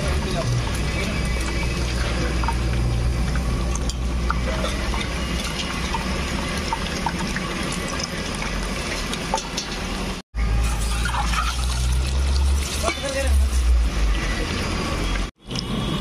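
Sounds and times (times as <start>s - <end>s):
eggs sizzling in hot oil: 0.0s - 13.8s
oil popping and crackling: 0.0s - 16.0s.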